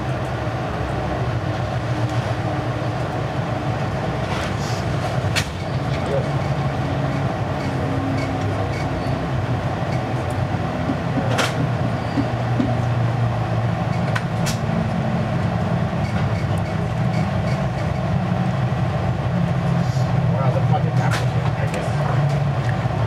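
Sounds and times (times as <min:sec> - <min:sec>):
train car rumbling: 0:00.0 - 0:23.0.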